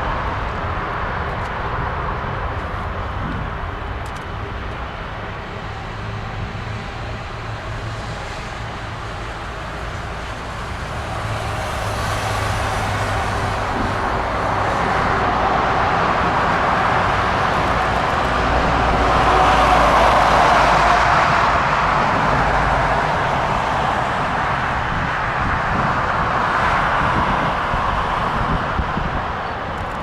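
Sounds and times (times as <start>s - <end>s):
jet engines on take-off: 0.0s - 30.0s.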